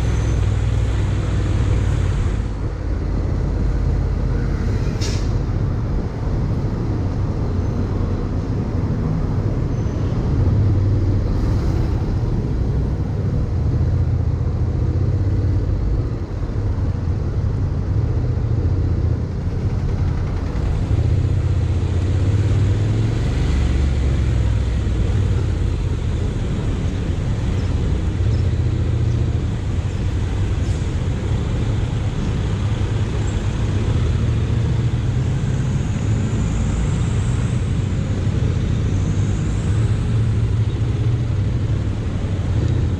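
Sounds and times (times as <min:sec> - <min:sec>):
road noise: 0:00.0 - 0:42.9
wind rumble: 0:00.0 - 0:42.9.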